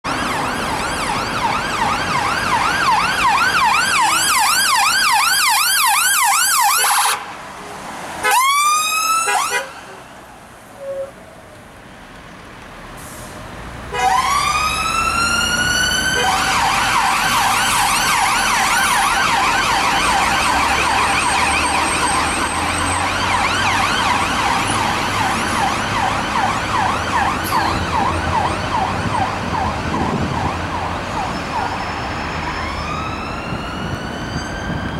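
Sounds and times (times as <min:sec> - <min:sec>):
fire engine siren: 0:00.0 - 0:10.0, 0:13.9 - 0:34.9.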